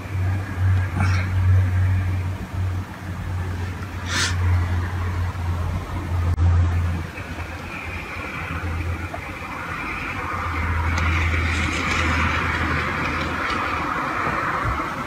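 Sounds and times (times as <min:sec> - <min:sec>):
road vehicle passing: 0:00.0 - 0:15.0.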